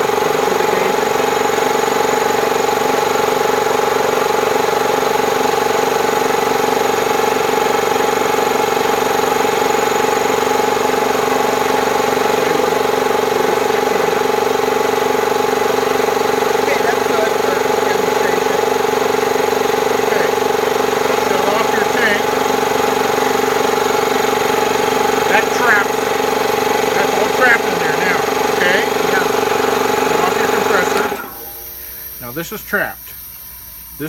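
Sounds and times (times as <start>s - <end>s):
air compressor humming: 0.0s - 34.0s.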